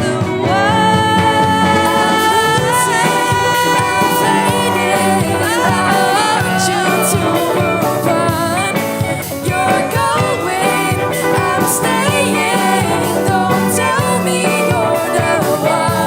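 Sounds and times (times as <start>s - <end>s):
bass: 0.0s - 16.0s
drum kit beat: 0.0s - 16.0s
pop band playing live: 0.0s - 16.0s
sliding melody line: 0.0s - 16.0s.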